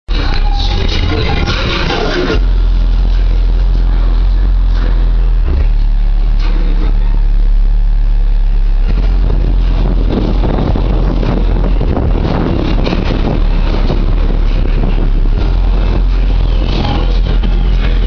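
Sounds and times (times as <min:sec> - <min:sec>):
loud deep subwoofer bass: 0:00.0 - 0:18.0.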